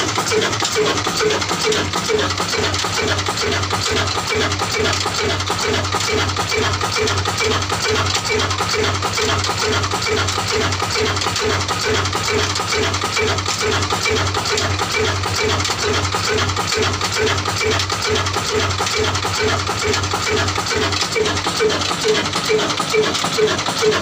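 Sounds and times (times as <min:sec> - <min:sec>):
diesel engine thumping steadily: 0:00.0 - 0:24.0.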